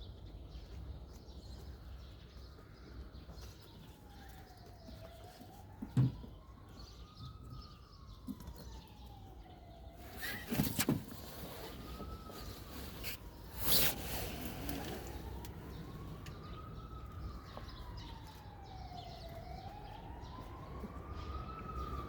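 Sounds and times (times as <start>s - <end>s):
low city rumble: 0.0s - 22.0s
faint siren wailing: 3.2s - 22.0s.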